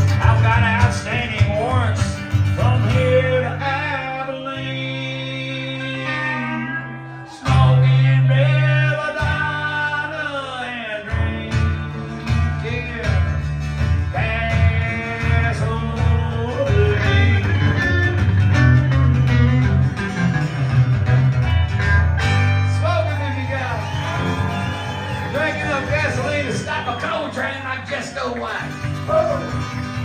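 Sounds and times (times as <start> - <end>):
bent lead guitar notes: 0.0 - 9.8, 11.1 - 27.0
low bass notes: 0.0 - 26.9
country band playing: 0.0 - 30.0.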